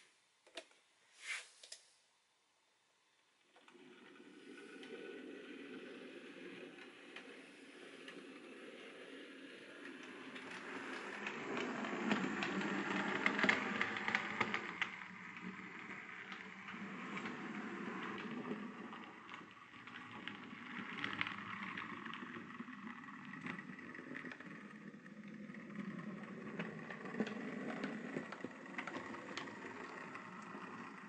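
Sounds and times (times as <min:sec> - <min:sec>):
model train motor hum: 0:03.4 - 0:31.0
wheels clicking over rail joints: 0:03.7 - 0:31.0.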